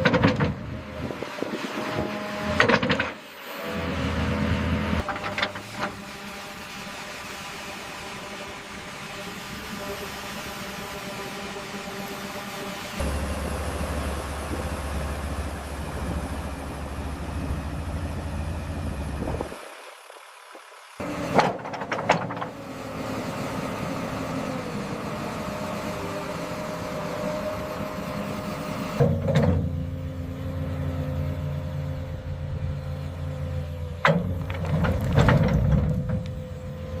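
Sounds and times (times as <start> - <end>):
heavy construction machine engine: 0.0 - 37.0.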